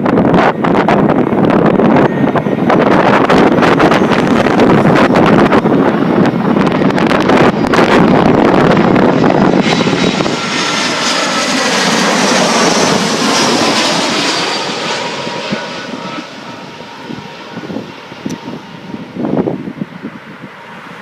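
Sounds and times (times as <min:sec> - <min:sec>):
jet airliner passing: 0:00.0 - 0:21.0
wind buffeting microphone: 0:00.0 - 0:21.0.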